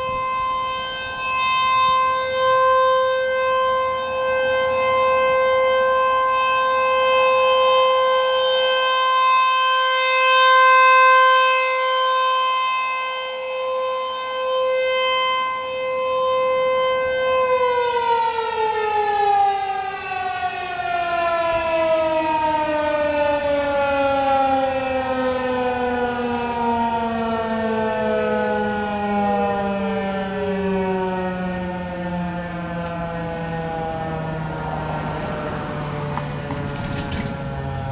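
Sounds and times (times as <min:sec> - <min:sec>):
distant sirens winding down: 0:00.0 - 0:37.9
rotating siren alert tone: 0:00.0 - 0:37.9.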